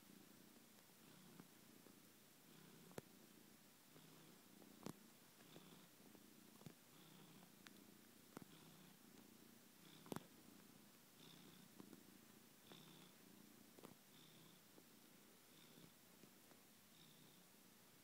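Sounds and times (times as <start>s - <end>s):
cat purring faintly: 0.0s - 18.0s.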